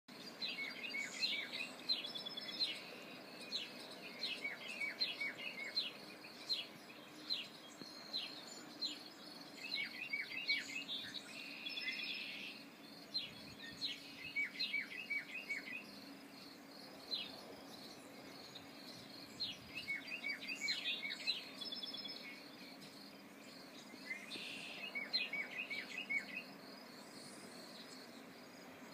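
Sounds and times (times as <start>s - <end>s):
songbirds chirping: 0.1s - 28.9s.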